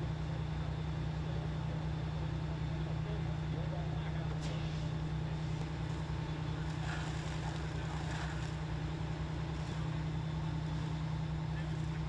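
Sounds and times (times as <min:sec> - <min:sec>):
low mechanical hum: 0:00.0 - 0:12.0
outdoor background noise: 0:00.0 - 0:12.0.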